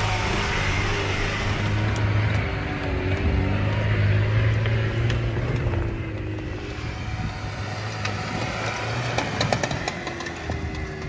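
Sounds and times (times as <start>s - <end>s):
car engine running under load: 0.0s - 11.0s.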